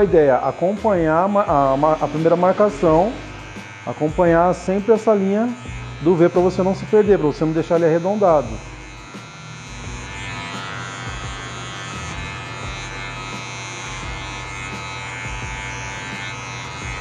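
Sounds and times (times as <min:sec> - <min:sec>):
electric hair clipper buzzing: 0:00.0 - 0:17.0.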